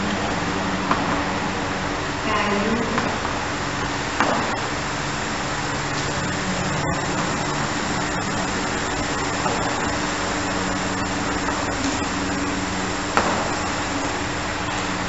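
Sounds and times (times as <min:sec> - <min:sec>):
low steady drone: 0:00.0 - 0:15.0
room noise hum and hiss: 0:00.0 - 0:15.0.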